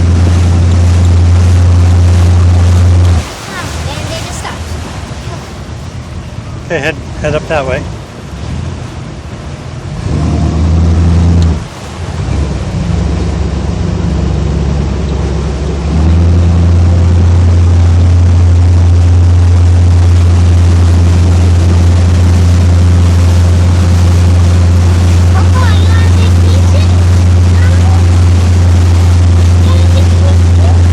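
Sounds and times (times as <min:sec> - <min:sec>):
motorboat engine: 0:00.0 - 0:30.9
water and wind noise: 0:00.0 - 0:30.9.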